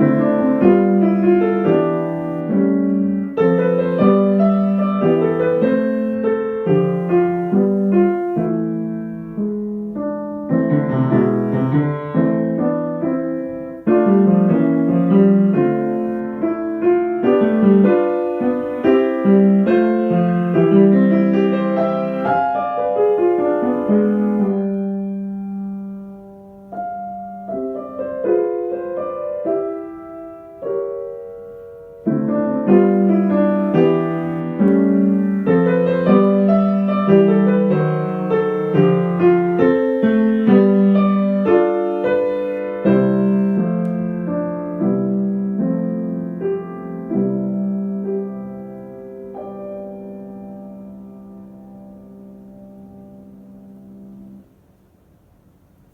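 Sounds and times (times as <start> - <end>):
solo piano piece: 0.0 - 55.9.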